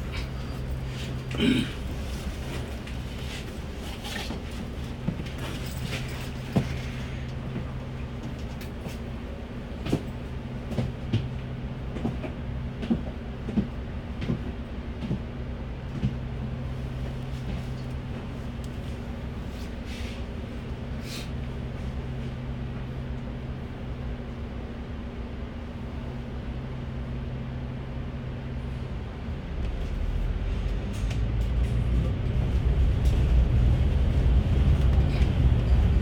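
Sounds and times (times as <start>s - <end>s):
bus engine hum: 0.0s - 36.0s.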